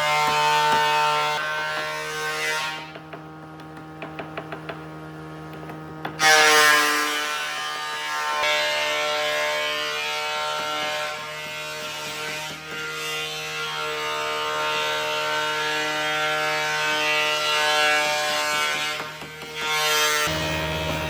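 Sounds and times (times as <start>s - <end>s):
power tool whining and rattling: 0.0s - 21.0s.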